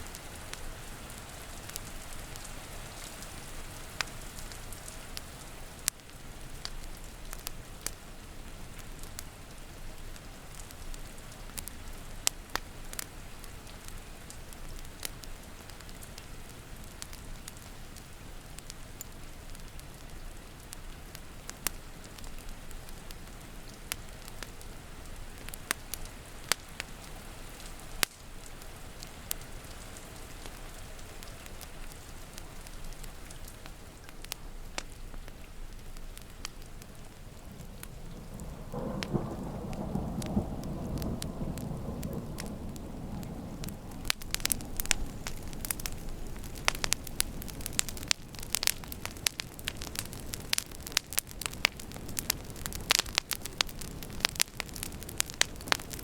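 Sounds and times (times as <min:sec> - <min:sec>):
rain hissing: 0:00.0 - 0:56.0
wood fire crackling: 0:00.0 - 0:56.0.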